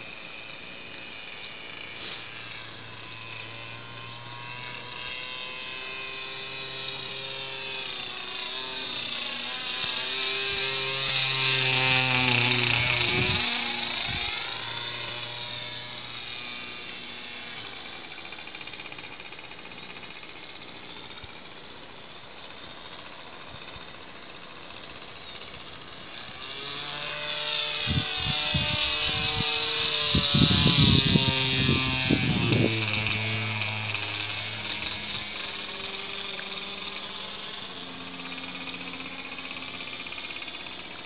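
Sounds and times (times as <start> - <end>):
model airplane motor whine: 0.0 - 41.0.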